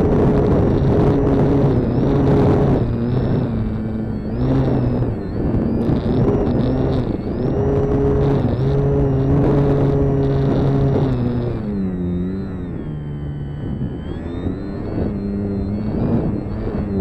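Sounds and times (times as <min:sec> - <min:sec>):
electric motor and propeller: 0:00.0 - 0:17.0
wind rushing over microphone: 0:00.0 - 0:17.0.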